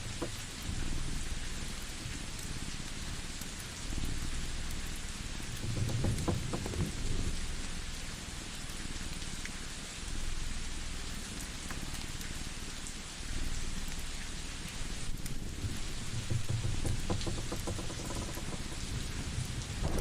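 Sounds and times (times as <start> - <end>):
rain-like hiss: 0.0 - 20.0.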